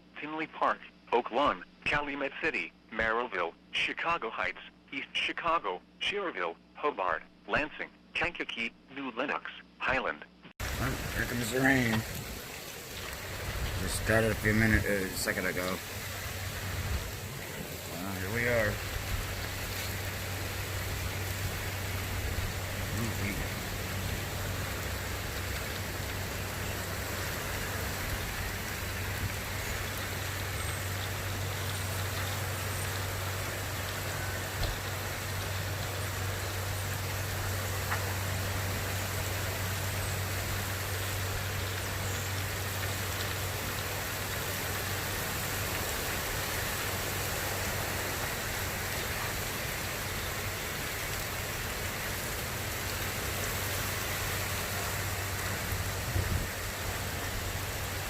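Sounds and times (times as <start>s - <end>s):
steady rain hiss: 0.0s - 58.0s
constant low hum: 4.6s - 58.0s.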